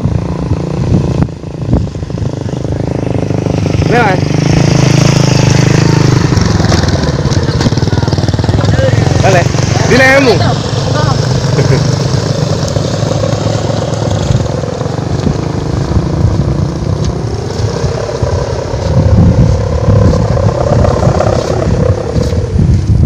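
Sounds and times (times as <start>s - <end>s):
kite hummer drone: 0.0s - 23.0s
wind buffeting microphone: 0.0s - 23.0s.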